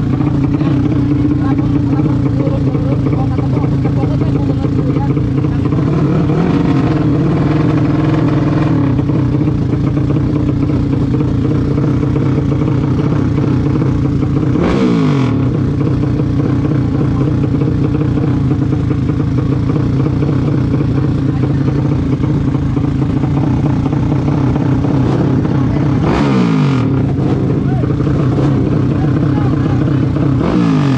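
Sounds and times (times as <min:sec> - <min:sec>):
motorcycle engines running: 0:00.0 - 0:30.9.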